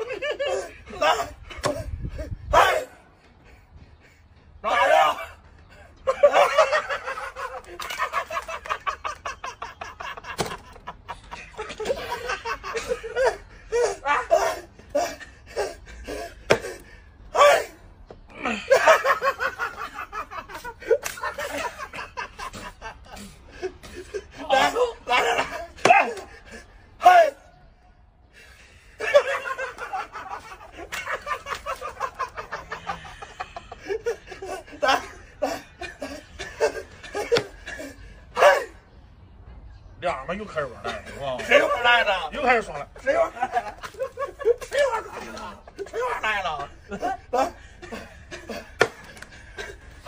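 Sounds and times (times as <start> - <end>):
people laughing: 0.0 - 27.4, 28.3 - 38.8, 40.6 - 50.0.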